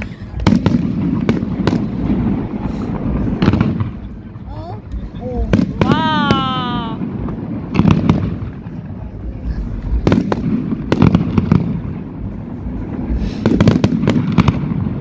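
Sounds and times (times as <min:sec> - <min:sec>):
continuous low rumble: 0:00.0 - 0:15.0.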